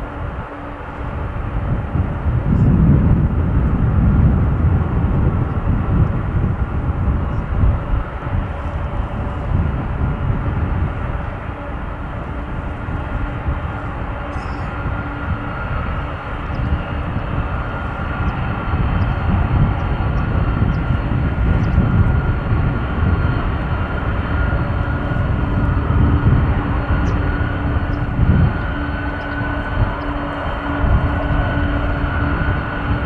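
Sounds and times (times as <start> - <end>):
jet engines rumbling: 0.0 - 33.0.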